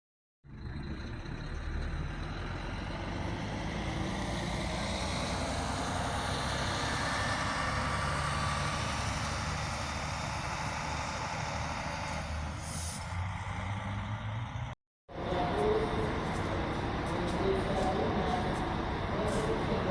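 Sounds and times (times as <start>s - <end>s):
diesel bus engine rumbling: 0.4s - 19.9s.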